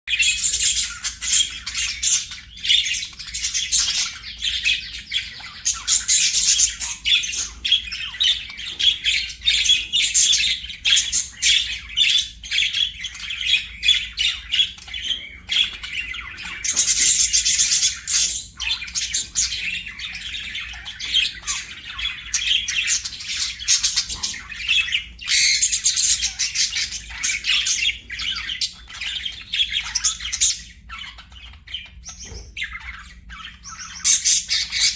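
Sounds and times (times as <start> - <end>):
budgerigars chattering and chirping: 0.1 - 34.9.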